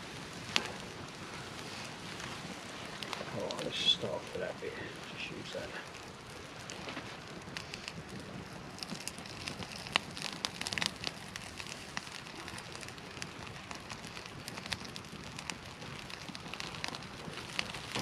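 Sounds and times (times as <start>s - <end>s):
fire crackling and popping: 0.0s - 18.0s
rain pattering: 0.0s - 18.0s.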